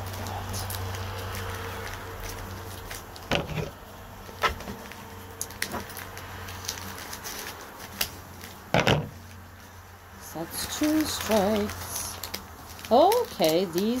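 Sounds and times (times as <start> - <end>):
paper rustle: 0.0 - 14.0.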